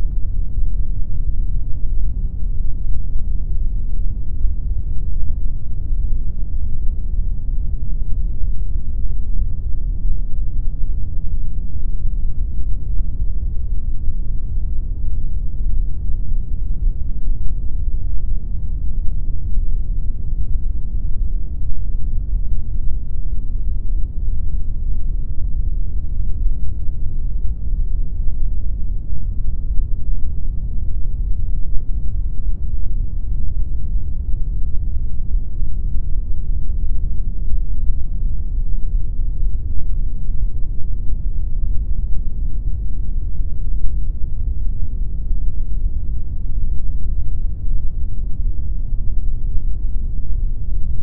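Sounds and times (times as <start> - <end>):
deep pink noise: 0.0 - 51.0.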